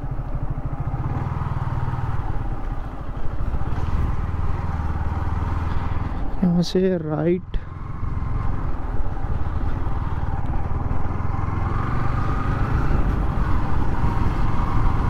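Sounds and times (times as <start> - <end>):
motorcycle engine rumble: 0.0 - 15.0.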